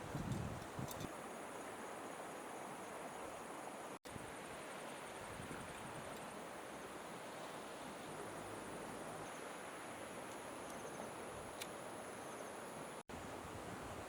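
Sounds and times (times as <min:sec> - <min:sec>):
river water flowing: 0:01.1 - 0:14.0.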